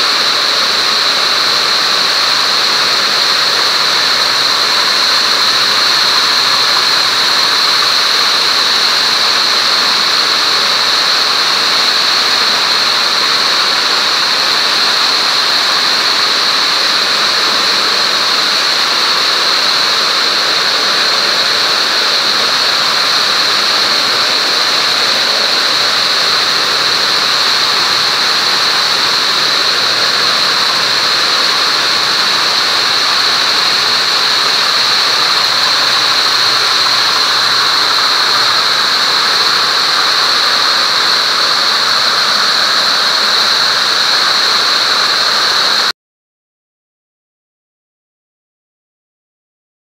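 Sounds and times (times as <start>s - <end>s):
weaving looms running: 0.0s - 45.9s.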